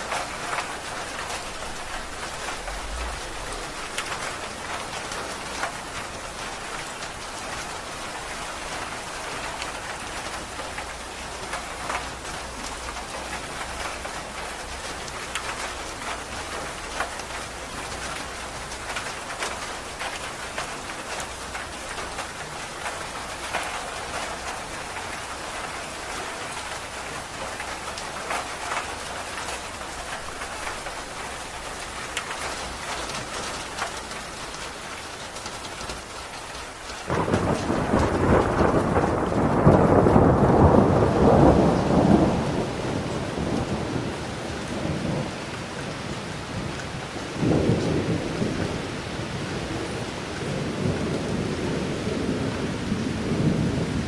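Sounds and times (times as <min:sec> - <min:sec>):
raindrops ticking on hard surface: 0:00.0 - 0:49.5
steady rain falling: 0:00.0 - 0:54.0.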